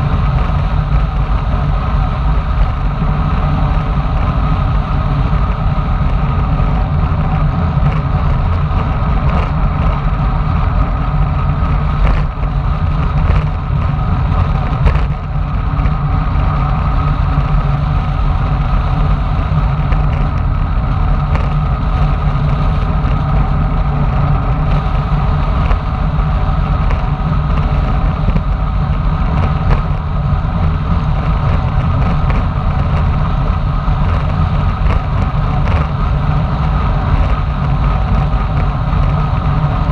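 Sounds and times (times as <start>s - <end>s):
tyre noise on pavement: 0.0s - 39.9s
wind rushing over microphone: 0.0s - 39.9s.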